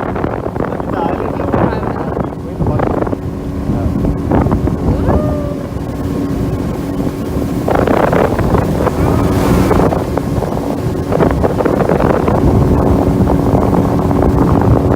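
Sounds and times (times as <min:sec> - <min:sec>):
boat motor droning: 0:00.0 - 0:14.9
wind buffeting microphone: 0:00.0 - 0:14.9.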